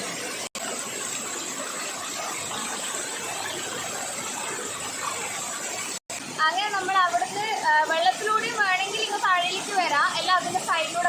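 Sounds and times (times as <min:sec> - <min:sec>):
stream and waterfall rushing: 0:00.0 - 0:11.0.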